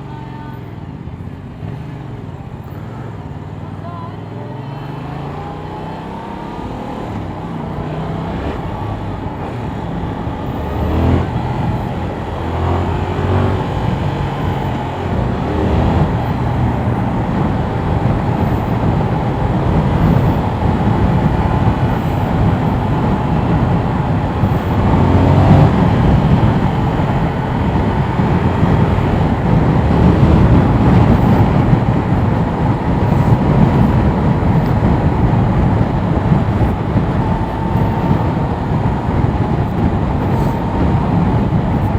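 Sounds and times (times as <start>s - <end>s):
motorcycle engine running: 0.0s - 41.9s
rush of riding wind: 0.0s - 41.9s.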